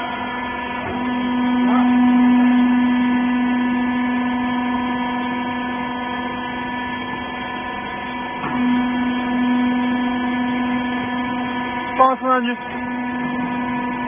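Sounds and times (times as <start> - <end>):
hydraulic pump motor humming: 0.0 - 14.0.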